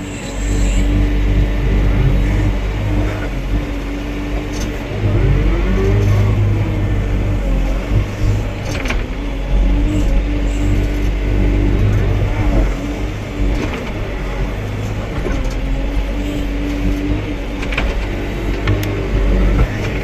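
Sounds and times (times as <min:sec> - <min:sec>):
excavator diesel engine whining: 0:00.0 - 0:20.0.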